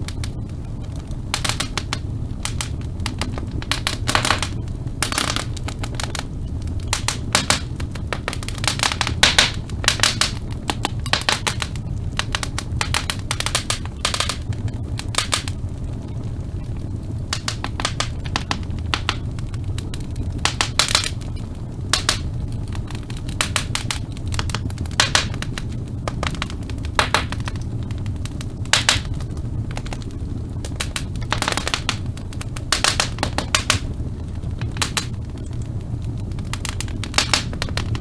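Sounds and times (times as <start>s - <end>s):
low rumble of burning: 0.0s - 38.0s
wood fire crackling: 0.0s - 38.0s.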